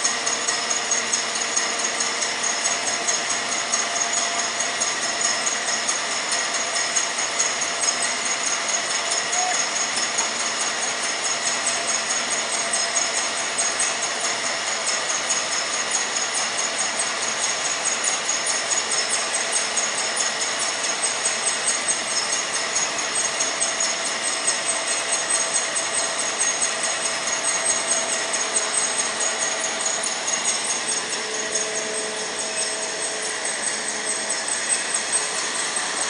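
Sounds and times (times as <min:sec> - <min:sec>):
high-pitched machine whine: 0:00.0 - 0:36.0
metal slitting machine running: 0:00.0 - 0:36.0
rapid mechanical flutter: 0:00.0 - 0:36.0.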